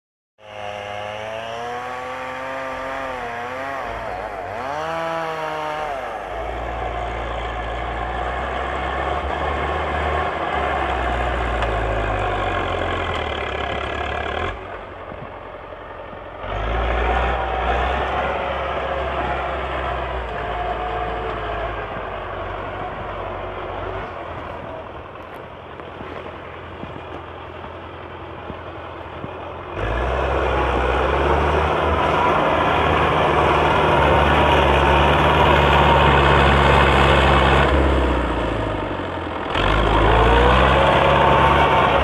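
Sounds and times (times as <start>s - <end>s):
tractor diesel engine revving: 0.4s - 42.0s.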